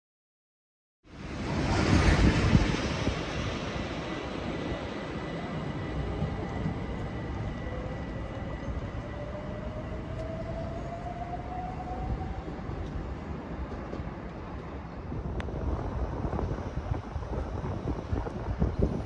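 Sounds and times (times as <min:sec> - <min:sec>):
wheels rumbling on rail: 0:01.1 - 0:19.0.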